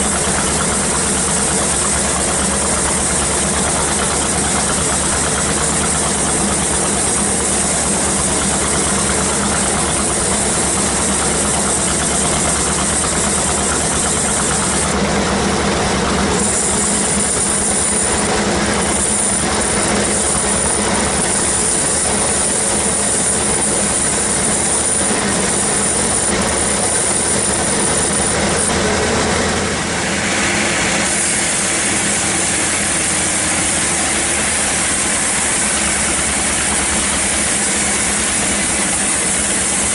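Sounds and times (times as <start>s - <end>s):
band saw running: 0.0s - 39.9s
thin high whine: 0.0s - 39.9s.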